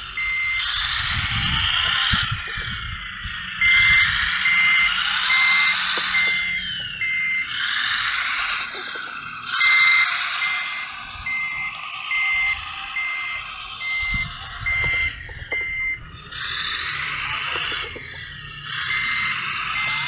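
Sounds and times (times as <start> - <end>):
electronic reversing beeps: 0.0 - 20.0.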